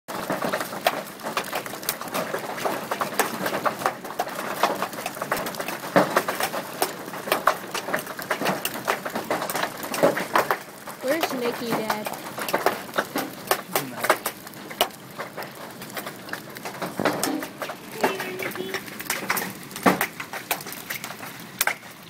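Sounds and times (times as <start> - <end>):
hailstones pelting a house: 0.1 - 22.0.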